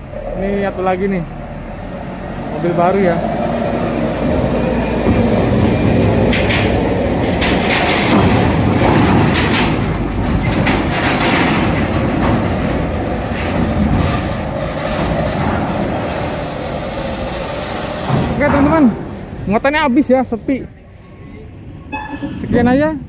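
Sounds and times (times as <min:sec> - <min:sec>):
wheels clanking over metal plates: 0:00.0 - 0:20.2
truck engine and rolling noise: 0:00.0 - 0:23.0.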